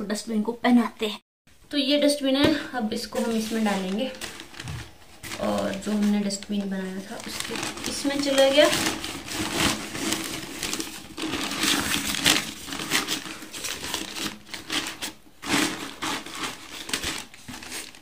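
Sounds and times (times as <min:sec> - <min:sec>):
newspaper rustling and crinkling: 0:03.0 - 0:18.0.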